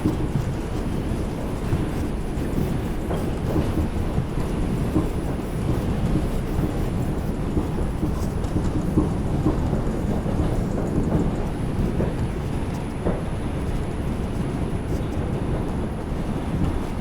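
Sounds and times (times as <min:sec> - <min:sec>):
rumble of wheels on rail: 0:00.0 - 0:17.0.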